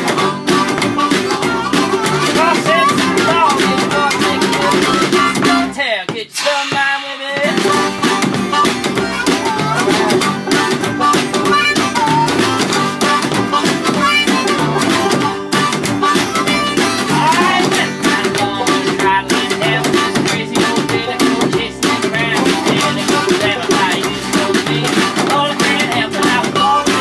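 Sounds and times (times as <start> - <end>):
banjo: 0.0 - 5.8, 6.4 - 27.0
harmonica with bending notes: 0.0 - 5.8, 6.4 - 27.0
guitar: 0.0 - 27.0
upright bass: 0.0 - 27.0.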